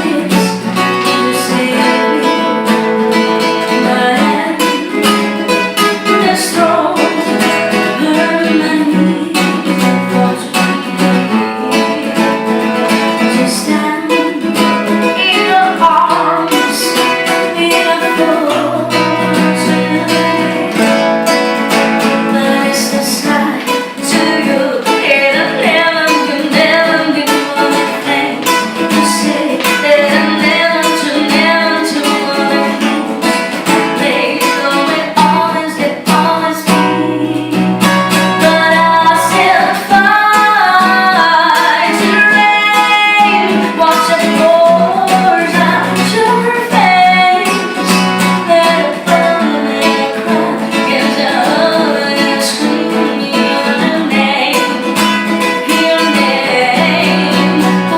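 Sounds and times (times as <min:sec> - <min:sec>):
strummed acoustic guitar: 0:00.0 - 0:57.9
woman singing: 0:00.0 - 0:57.9.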